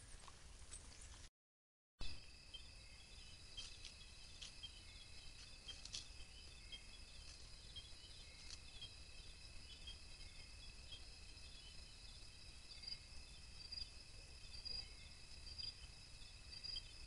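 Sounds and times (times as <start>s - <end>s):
insects trilling: 2.0s - 17.0s
pulsing insect chirp: 2.0s - 17.0s.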